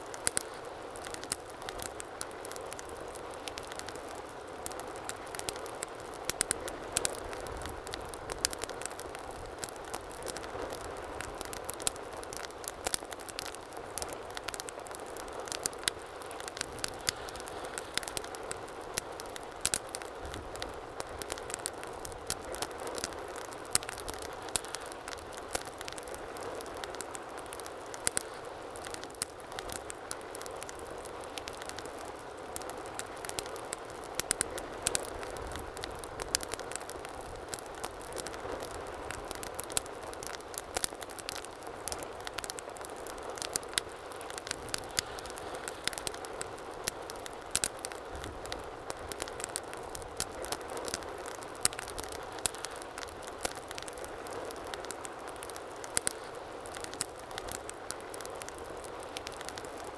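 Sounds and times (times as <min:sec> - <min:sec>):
rushing of flames: 0:00.0 - 0:59.9
wood fire crackles and pops: 0:00.0 - 0:59.9.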